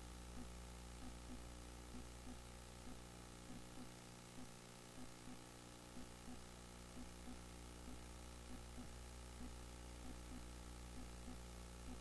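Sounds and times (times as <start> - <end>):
faint low hum: 0.0 - 12.0
soft small blips: 0.3 - 12.0.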